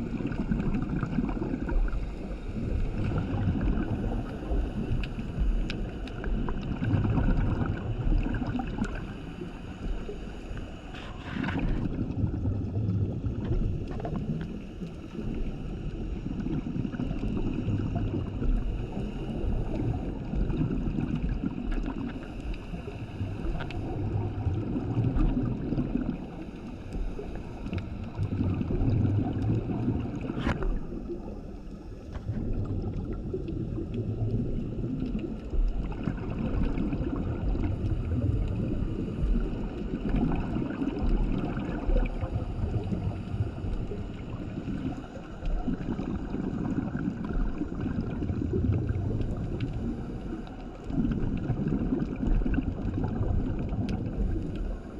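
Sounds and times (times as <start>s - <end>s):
diver exhaling bubbles underwater: 0.0s - 10.2s, 10.8s - 54.9s.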